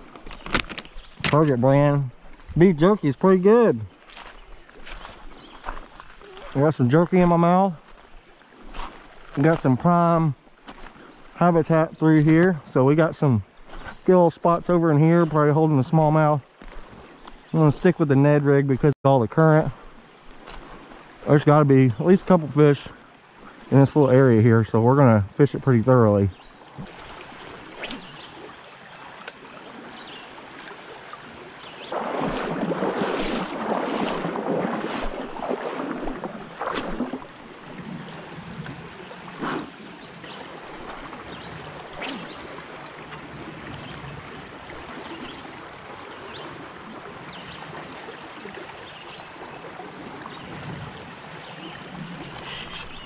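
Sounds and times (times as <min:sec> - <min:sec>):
river current rushing and lapping: 0:00.0 - 0:53.0.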